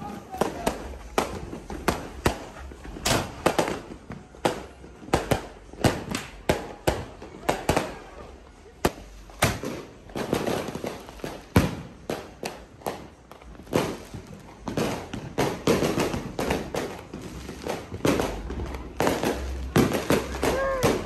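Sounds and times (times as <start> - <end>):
firecrackers and fireworks banging: 0.0 - 21.0.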